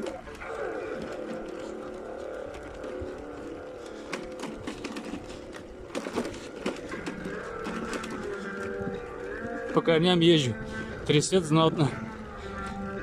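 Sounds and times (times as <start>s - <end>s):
bicycle rattling and knocking: 0.0s - 10.5s.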